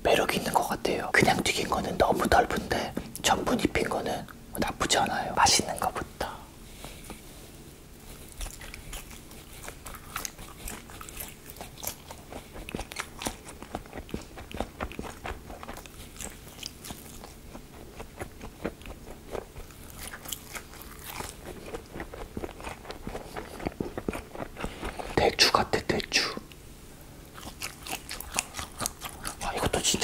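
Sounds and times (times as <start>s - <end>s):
crunchy chewing: 0.2s - 26.6s, 27.2s - 30.0s.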